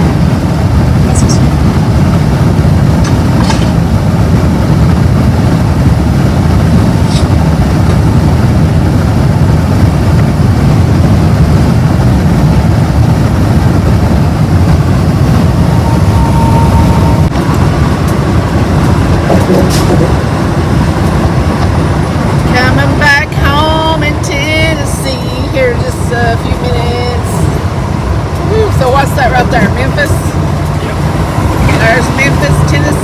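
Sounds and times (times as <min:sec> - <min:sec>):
road rumble inside a car: 0:00.0 - 0:33.0.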